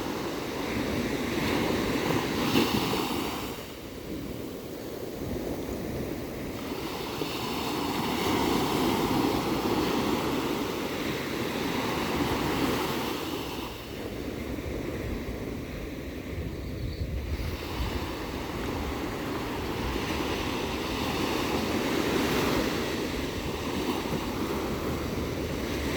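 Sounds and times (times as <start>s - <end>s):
ocean waves breaking: 0.0s - 25.9s.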